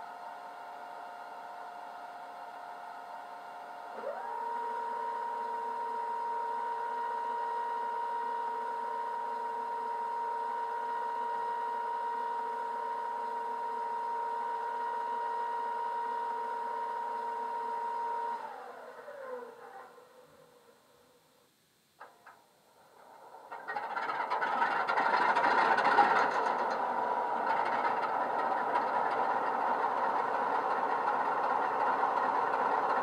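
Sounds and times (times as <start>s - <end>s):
diesel engine drone from small speaker: 0.0s - 21.0s, 23.4s - 33.0s.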